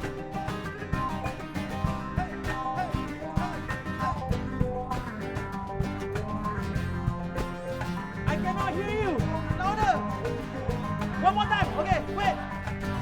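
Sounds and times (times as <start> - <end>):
bass: 0.0 - 13.0
hand percussion: 0.0 - 13.0
plucked strings: 0.0 - 13.0.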